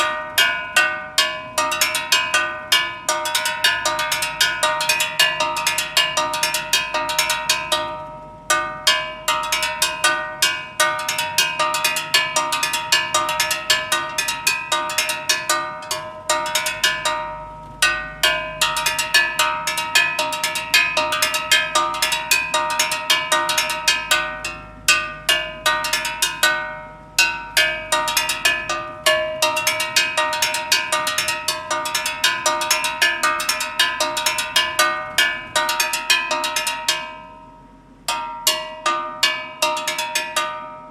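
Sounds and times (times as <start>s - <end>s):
metal gas cylinder struck rhythmically: 0.0s - 40.9s.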